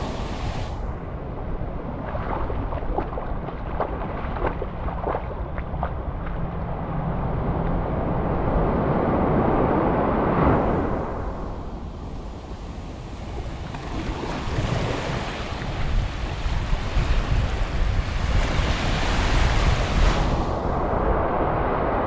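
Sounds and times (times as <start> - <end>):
surf washing: 0.0 - 22.0
wind buffeting microphone: 0.0 - 22.0.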